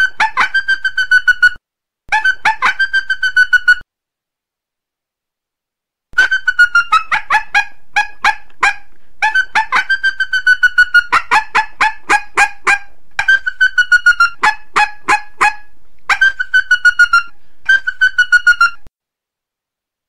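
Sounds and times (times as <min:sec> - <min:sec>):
coyote yips and whines: 0:00.0 - 0:03.8, 0:06.2 - 0:18.9.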